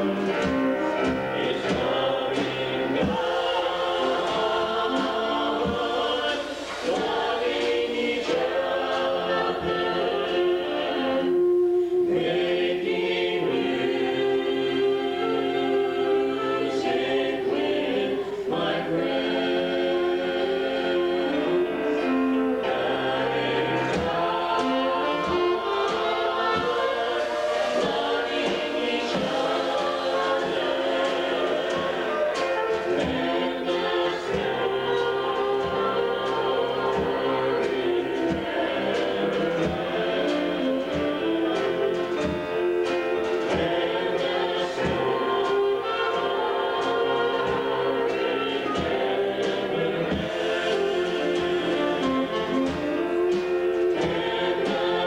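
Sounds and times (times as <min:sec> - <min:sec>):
instrumental accompaniment: 0:00.0 - 0:55.0
vocal group singing in harmony: 0:00.0 - 0:55.0.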